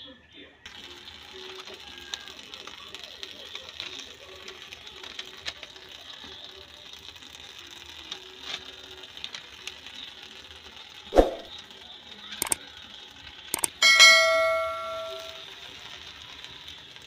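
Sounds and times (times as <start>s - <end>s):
vegetables sizzling in a wok: 0.6s - 17.0s.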